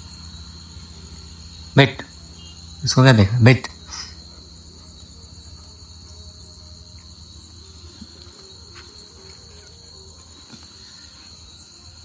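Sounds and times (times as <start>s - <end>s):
crickets chirping: 0.0s - 12.0s
low steady hum: 0.0s - 12.0s.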